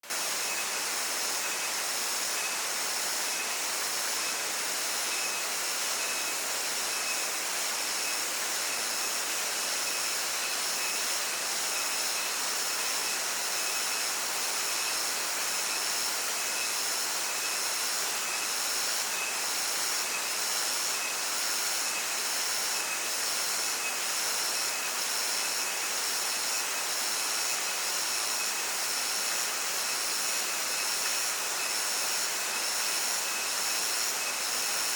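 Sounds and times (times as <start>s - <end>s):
stream and waterfall rushing: 0.1s - 34.9s
insects droning: 0.2s - 34.9s.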